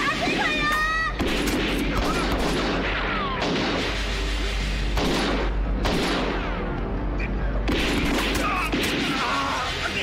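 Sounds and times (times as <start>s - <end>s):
film music: 0.0s - 10.0s
pistol shots: 0.3s - 6.7s, 7.6s - 9.9s.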